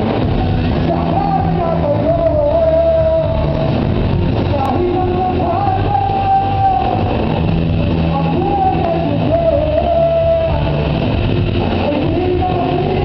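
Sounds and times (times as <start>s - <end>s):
person singing long notes: 0.0s - 13.0s
rock band playing: 0.0s - 13.0s.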